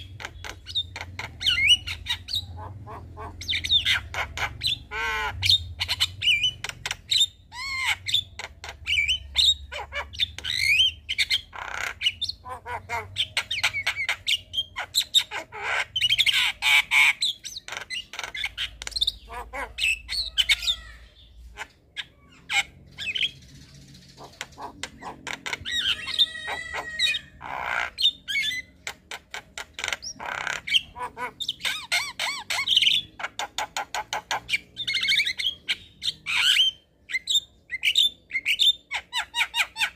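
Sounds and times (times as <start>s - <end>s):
myna bird chattering song: 0.0s - 39.9s.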